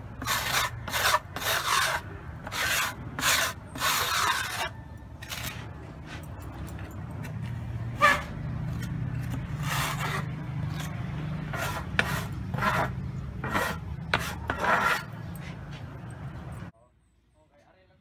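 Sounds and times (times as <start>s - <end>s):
hand tools scraping concrete blocks: 0.0s - 6.4s, 7.9s - 15.9s.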